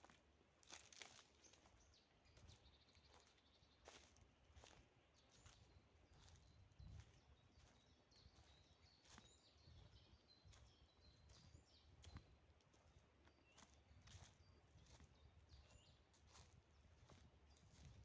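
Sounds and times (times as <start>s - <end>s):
small birds chirping: 1.4s - 18.0s.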